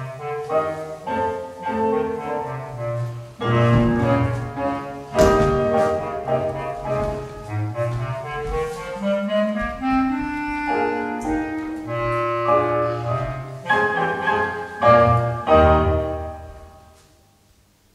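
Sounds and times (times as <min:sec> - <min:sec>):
instrumental children's dance music: 0:00.0 - 0:17.0.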